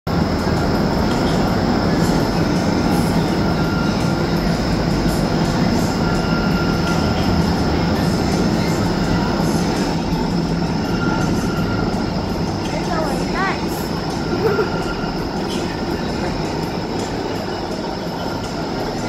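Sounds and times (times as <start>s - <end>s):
faint high whine: 0.1s - 19.0s
rush of air and fan noise: 0.1s - 19.0s.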